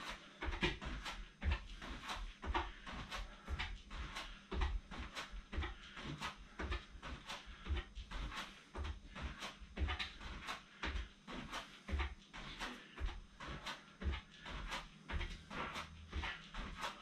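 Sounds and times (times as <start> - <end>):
bare feet thumping on wooden box: 0.0 - 17.0.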